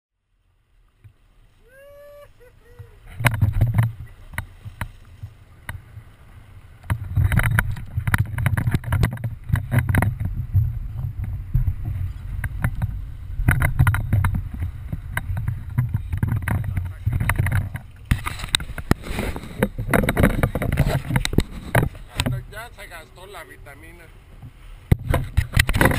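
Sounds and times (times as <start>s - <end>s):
wind and water on hull: 0.2s - 25.9s.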